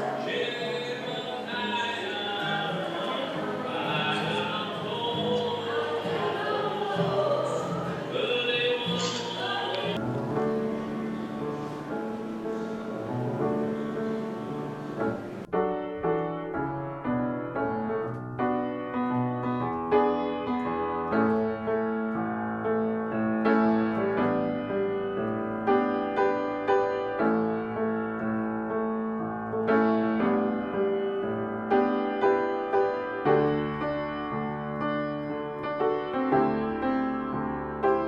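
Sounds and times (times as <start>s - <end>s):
slow piano music: 0.0s - 38.0s.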